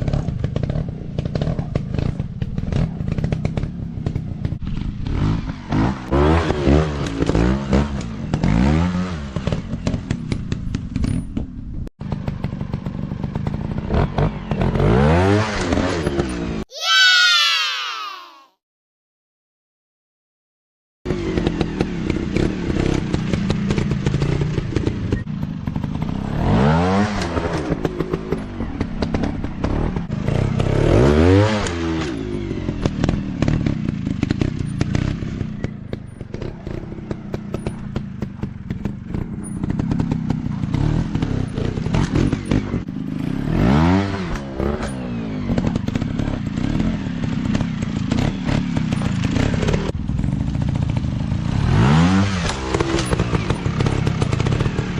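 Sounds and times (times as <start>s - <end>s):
motorcycle engines revving: 0.0s - 16.6s, 21.1s - 54.9s.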